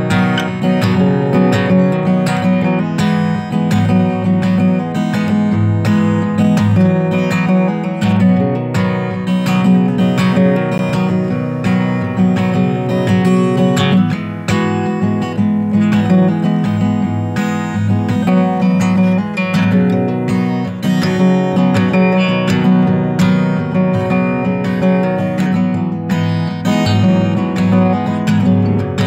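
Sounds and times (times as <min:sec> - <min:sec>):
strummed acoustic guitar: 0:00.0 - 0:29.0.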